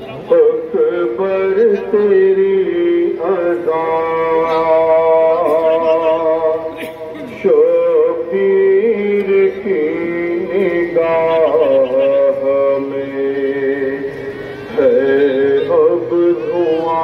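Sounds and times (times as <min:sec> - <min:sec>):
man chanting a lament: 0:00.0 - 0:17.0.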